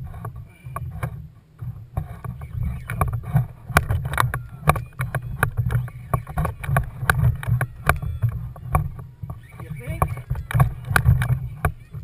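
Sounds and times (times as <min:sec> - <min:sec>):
water knocking against kayak hull: 0:00.8 - 0:12.0.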